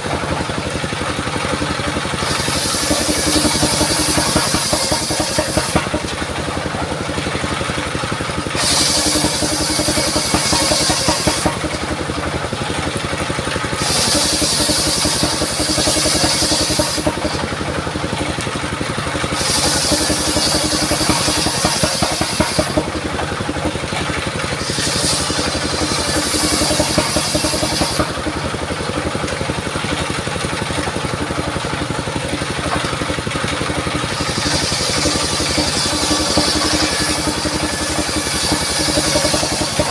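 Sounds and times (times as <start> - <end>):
saw blade cutting wood: 0.0 - 39.9
sawmill engine running: 0.0 - 39.9.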